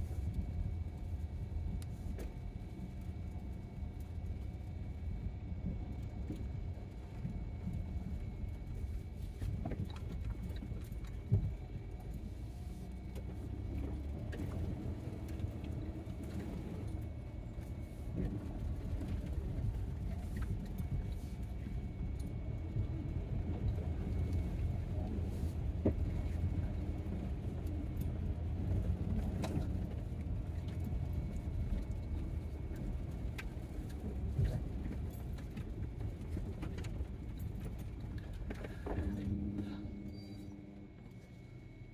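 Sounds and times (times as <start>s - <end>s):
engine and tyres rumbling: 0.0s - 41.9s.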